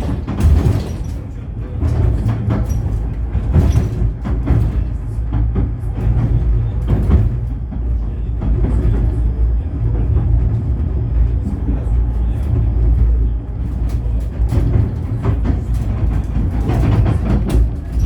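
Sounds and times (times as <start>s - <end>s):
knocks and clatters: 0.0s - 18.0s
tram rumbling in motion: 0.0s - 18.0s.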